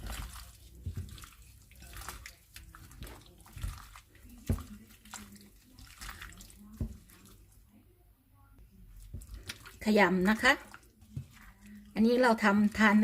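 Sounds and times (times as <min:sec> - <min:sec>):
hands squishing meat in marinade: 0:00.0 - 0:07.7, 0:08.7 - 0:13.0.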